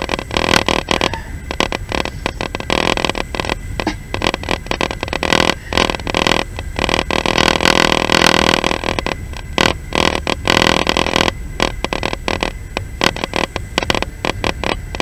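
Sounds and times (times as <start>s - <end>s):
train rumbling: 0.0s - 15.0s
train running noise: 0.0s - 15.0s.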